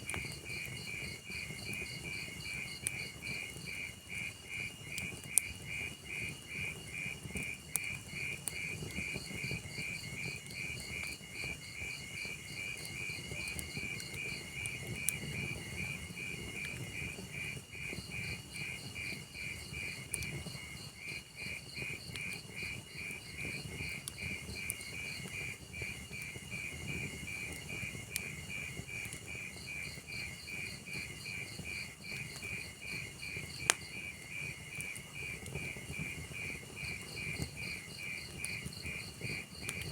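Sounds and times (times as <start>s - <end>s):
burning logs crackling: 0.0s - 39.9s
log fire rumbling: 0.0s - 39.9s
crickets chirping: 7.5s - 39.9s.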